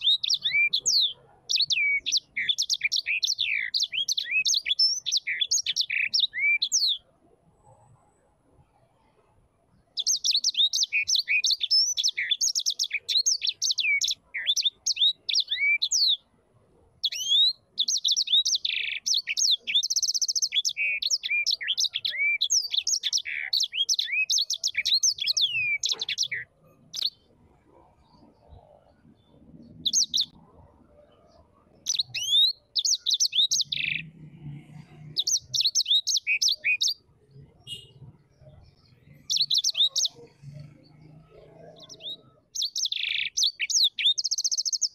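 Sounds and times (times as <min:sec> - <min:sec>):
songbird twittering chirps: 0:00.0 - 0:08.0, 0:08.6 - 0:16.4, 0:17.0 - 0:44.9.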